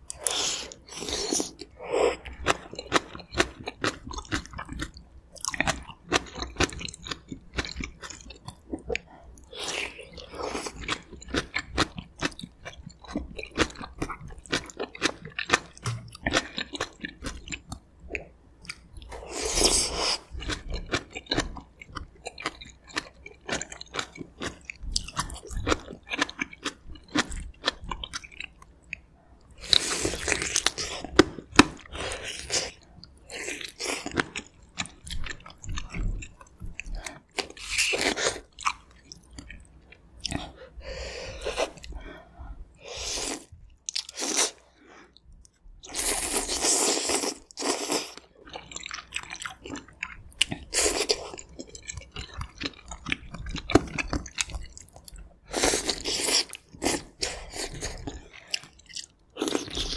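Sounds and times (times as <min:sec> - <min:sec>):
wet chewing with mouth clicks: 0:00.0 - 0:42.2, 0:42.9 - 0:59.9.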